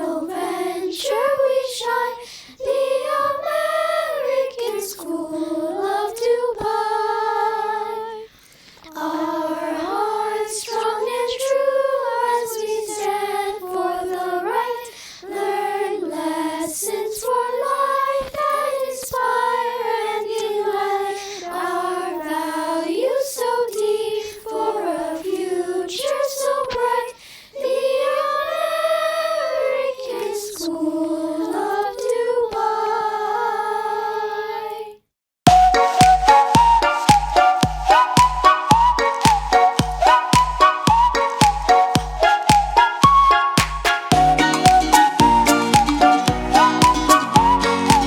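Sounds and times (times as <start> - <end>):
children's choir singing: 0.0 - 48.0.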